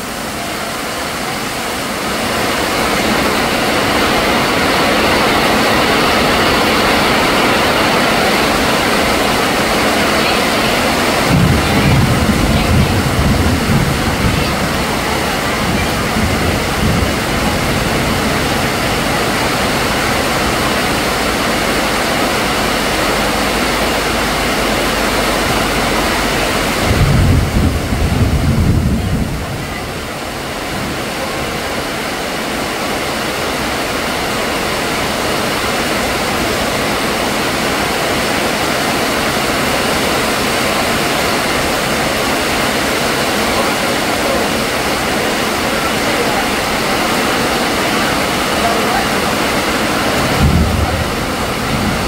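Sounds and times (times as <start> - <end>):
heavy rain on yard and roof: 0.0 - 52.0.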